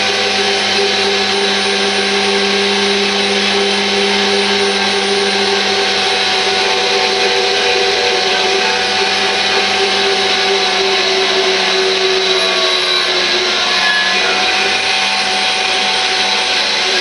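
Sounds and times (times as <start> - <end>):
power tool motor whine: 0.0 - 17.0.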